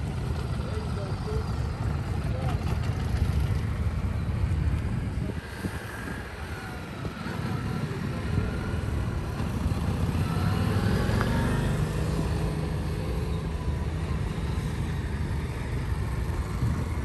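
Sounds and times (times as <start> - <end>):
motorcycle engines at low speed: 0.0 - 17.0.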